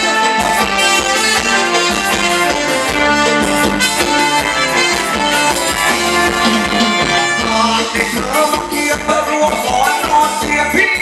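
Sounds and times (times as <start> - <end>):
band playing dance music: 0.0 - 11.0.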